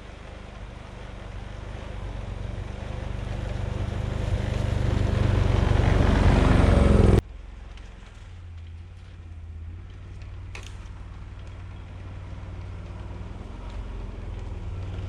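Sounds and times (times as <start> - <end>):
engine running: 0.0 - 15.0
low hum: 0.0 - 15.0.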